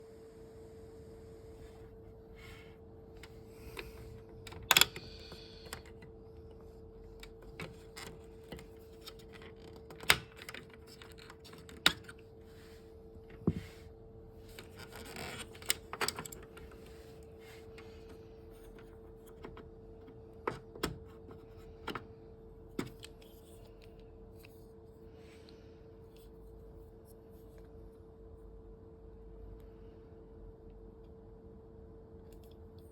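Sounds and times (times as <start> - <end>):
steady hum: 0.0 - 32.8.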